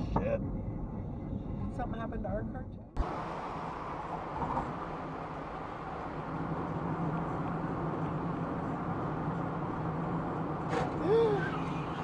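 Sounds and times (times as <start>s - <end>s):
low hum: 0.0s - 12.0s
road and engine noise in car: 0.0s - 12.0s.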